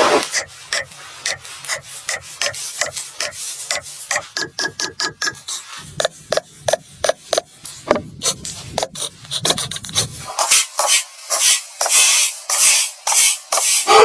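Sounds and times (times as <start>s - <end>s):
hand tool rasping wood: 0.0s - 12.0s, 13.1s - 14.0s.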